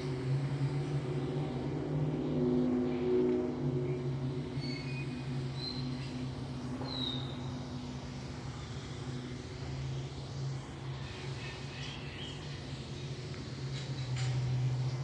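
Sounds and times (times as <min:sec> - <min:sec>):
low drone: 0:00.0 - 0:15.0.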